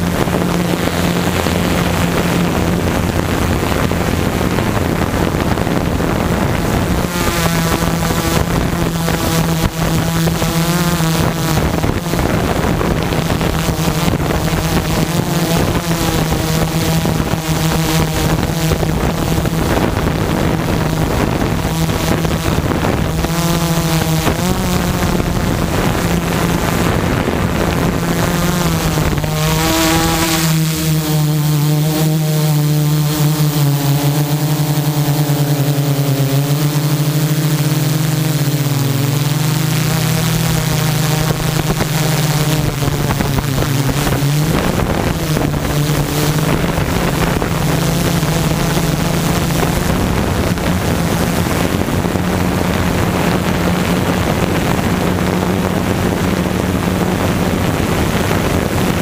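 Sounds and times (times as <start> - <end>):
drone motors humming: 0.0 - 59.0
wind rushing over microphone: 0.0 - 59.0.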